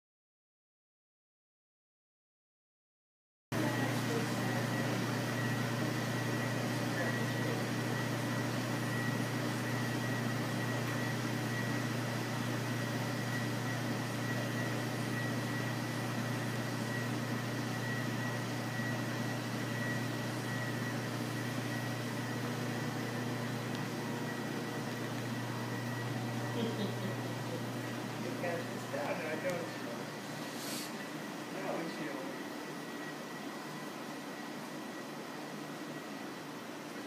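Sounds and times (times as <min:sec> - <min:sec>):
treadmill motor hum: 0:03.6 - 0:37.0.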